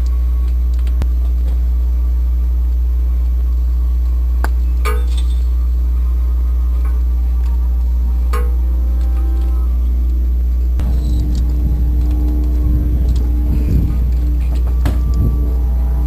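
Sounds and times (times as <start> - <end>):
loud steady low hum: 0.0 - 16.0.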